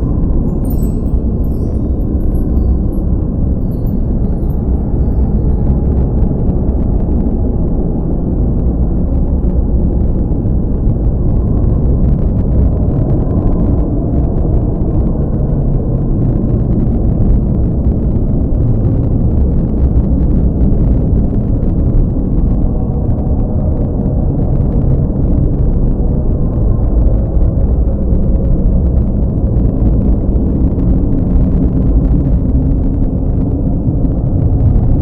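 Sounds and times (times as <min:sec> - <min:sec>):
deep rumble: 0:00.0 - 0:35.0.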